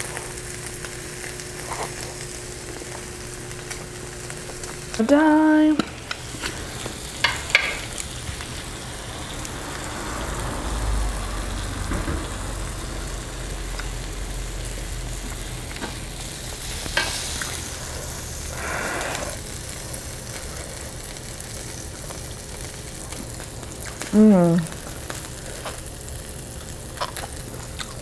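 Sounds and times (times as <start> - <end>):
meat sizzling on a grill: 0.0 - 28.0.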